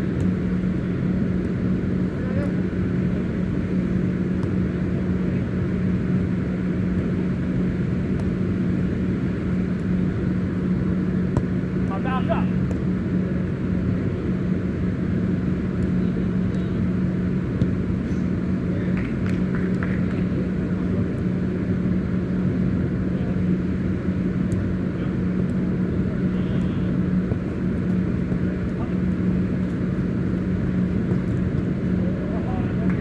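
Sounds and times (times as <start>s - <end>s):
constant rumbling: 0.0s - 33.0s
steady low hum: 0.0s - 33.0s.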